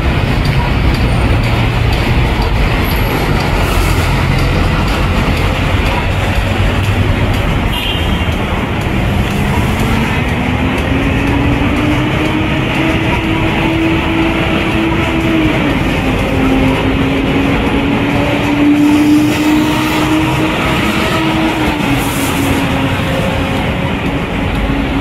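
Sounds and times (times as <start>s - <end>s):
heavy engine hum: 0.0s - 25.0s
passing vehicles rushing: 0.0s - 25.0s.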